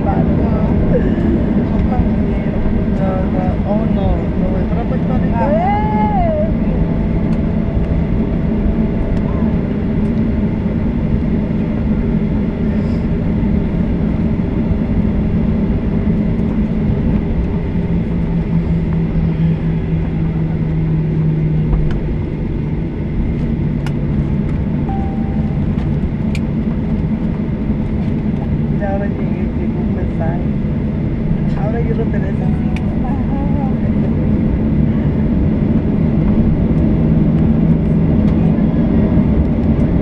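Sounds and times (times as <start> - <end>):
jet engine rumble inside cabin: 0.0 - 40.0
low hum: 0.0 - 40.0.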